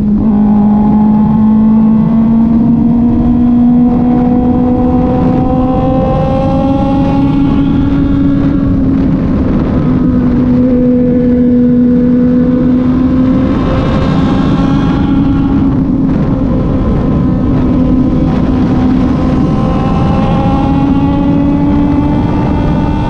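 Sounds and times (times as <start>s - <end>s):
motorcycle engine cruising: 0.0s - 23.0s
wind and road noise: 0.0s - 23.0s.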